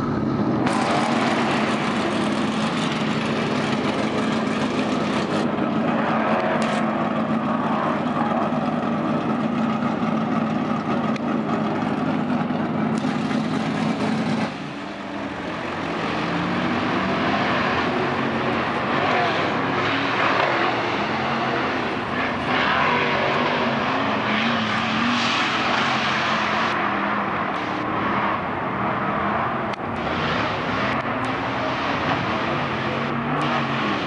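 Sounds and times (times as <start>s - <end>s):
racing vehicle engine drone: 0.0s - 34.0s
rushing noise: 0.0s - 34.0s.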